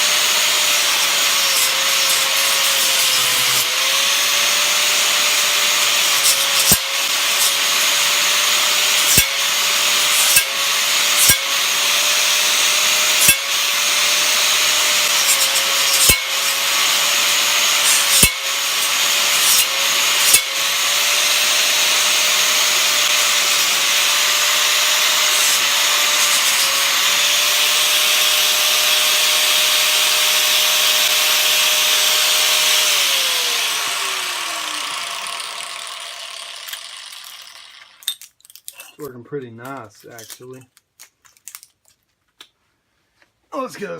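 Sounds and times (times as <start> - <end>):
angle grinder cutting metal: 0.0 - 38.3.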